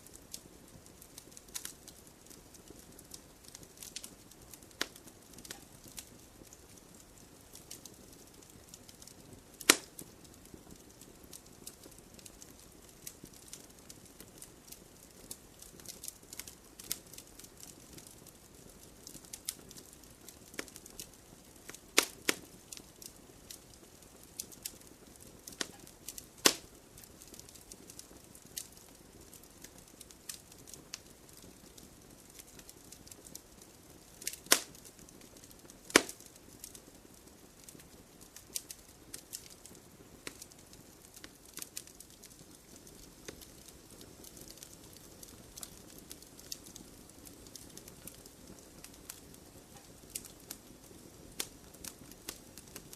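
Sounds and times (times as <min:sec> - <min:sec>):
campfire crackling: 0:00.0 - 0:52.9
sharp fire pops: 0:00.1 - 0:18.1, 0:18.8 - 0:28.8, 0:34.2 - 0:37.8, 0:38.4 - 0:52.9.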